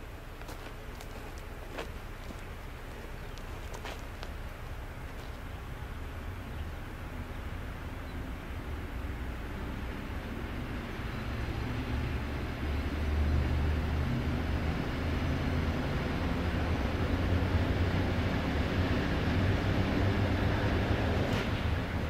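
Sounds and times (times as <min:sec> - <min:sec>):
train rumbling on tracks: 0:00.0 - 0:22.0.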